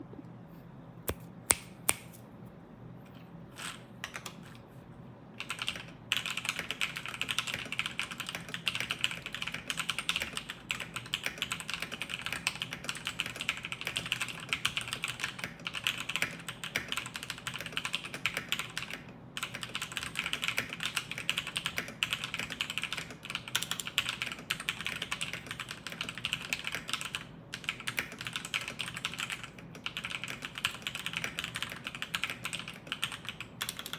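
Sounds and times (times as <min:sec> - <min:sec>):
mechanical keyboard typing: 0:05.4 - 0:33.9.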